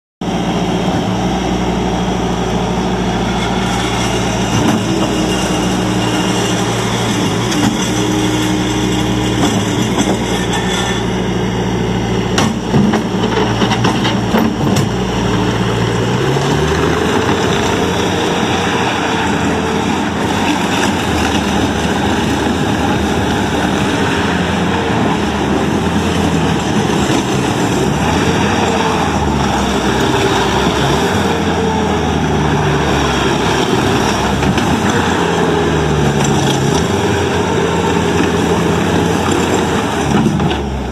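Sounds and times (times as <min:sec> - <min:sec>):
diesel engine running: 0:00.2 - 0:40.9.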